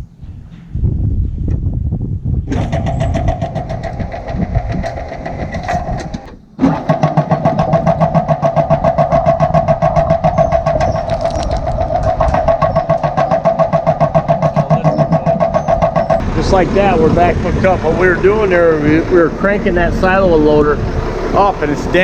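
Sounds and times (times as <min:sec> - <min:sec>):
engine running with rapid pulse: 0:02.5 - 0:22.0.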